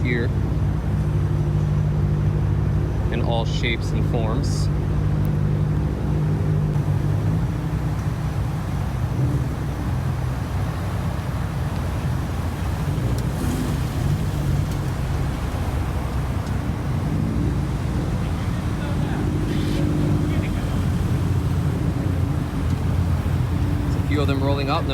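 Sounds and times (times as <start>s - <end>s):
car engines idling: 0.0s - 24.9s
traffic rumble: 0.0s - 24.9s.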